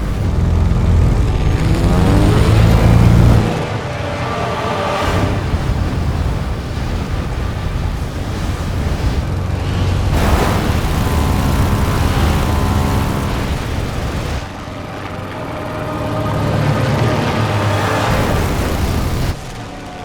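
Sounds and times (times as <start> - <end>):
heavy deep rumble: 0.0 - 19.6
film score music: 0.0 - 20.0.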